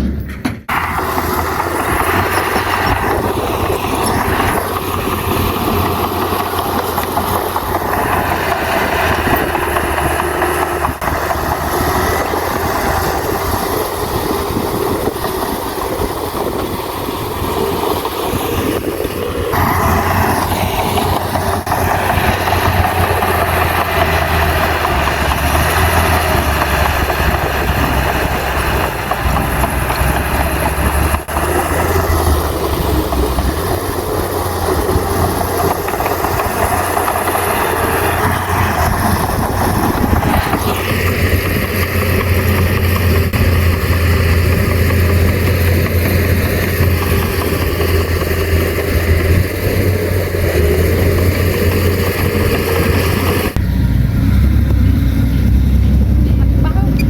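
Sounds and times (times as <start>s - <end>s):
steel tracks clattering: 0.0s - 53.6s
bulldozer diesel engine under load: 0.0s - 57.0s.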